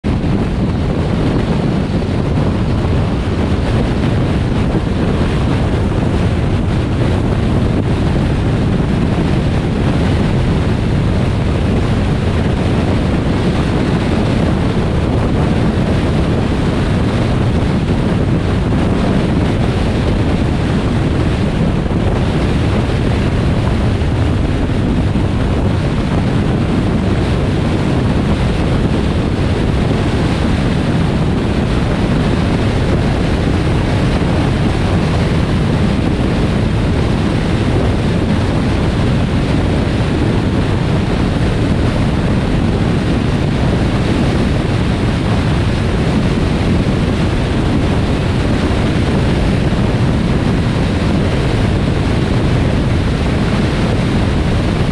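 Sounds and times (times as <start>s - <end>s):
car road noise at speed: 0.0s - 54.9s
wind buffeting microphone: 0.0s - 54.9s.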